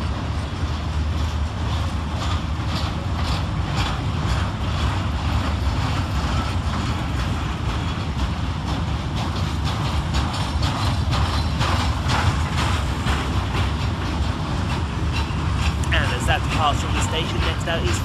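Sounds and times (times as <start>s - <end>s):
train rumbling: 0.0s - 18.0s
wheels clattering on rails: 0.0s - 18.0s.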